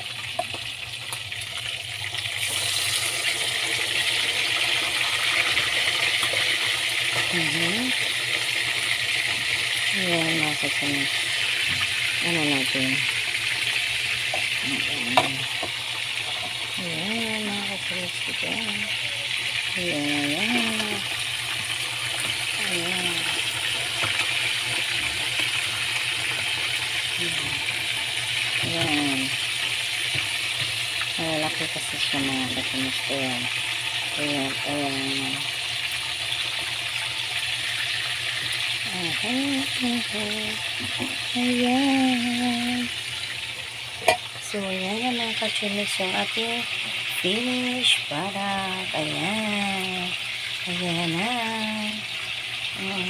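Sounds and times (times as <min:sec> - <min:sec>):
fish sizzling in hot oil: 0:00.0 - 0:53.0.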